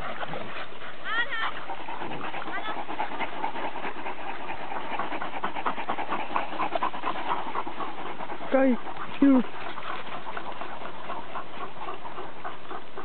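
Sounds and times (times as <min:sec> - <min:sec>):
dogs panting: 0:00.0 - 0:13.0.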